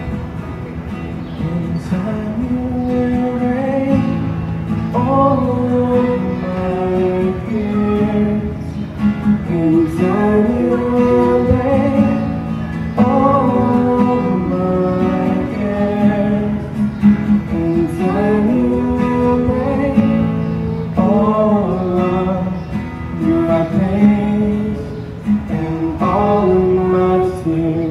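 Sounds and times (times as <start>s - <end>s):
acoustic guitar: 0.0s - 27.9s
person singing: 1.4s - 8.8s, 9.4s - 16.8s, 17.4s - 27.9s.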